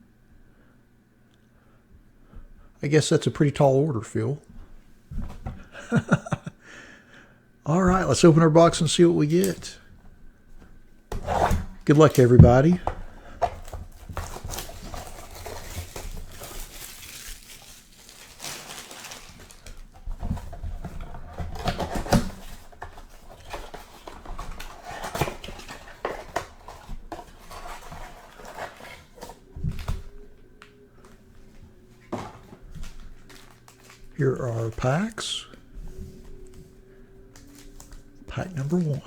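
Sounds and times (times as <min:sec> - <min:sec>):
card packs rustling and crinkling: 0:07.7 - 0:39.0.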